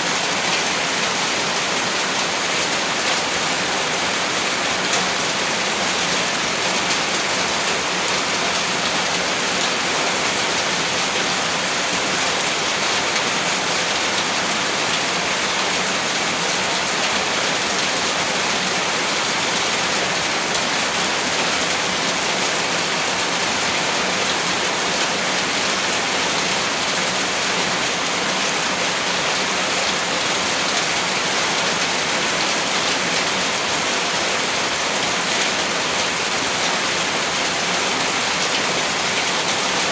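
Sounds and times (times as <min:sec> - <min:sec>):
heavy rain on a surface: 0:00.0 - 0:39.9.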